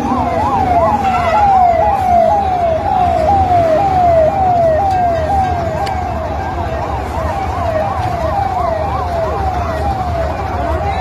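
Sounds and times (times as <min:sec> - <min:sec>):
emergency vehicle siren: 0:00.0 - 0:11.0
traffic rumble: 0:00.0 - 0:11.0.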